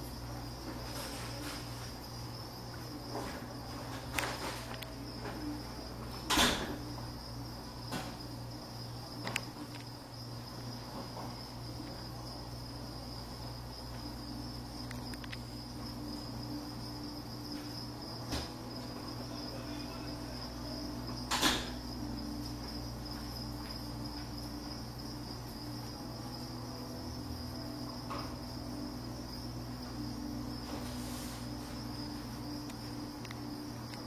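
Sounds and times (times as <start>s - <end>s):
insect chirring: 0.0s - 34.0s.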